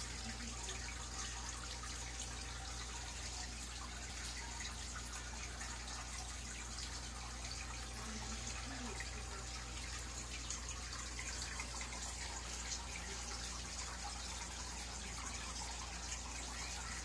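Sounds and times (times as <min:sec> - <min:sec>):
aquarium water trickling and dripping: 0:00.0 - 0:17.0
low electrical hum: 0:00.0 - 0:17.0.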